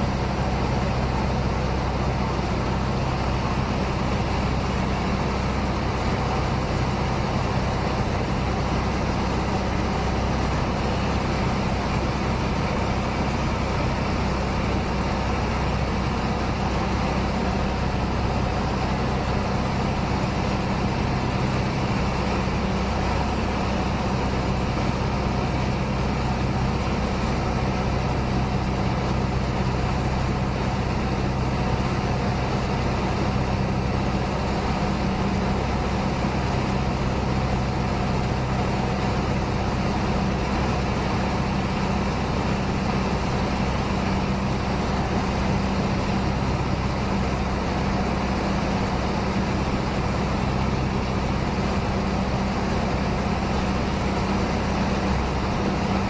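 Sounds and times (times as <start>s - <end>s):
airplane engine droning: 0.0s - 56.0s.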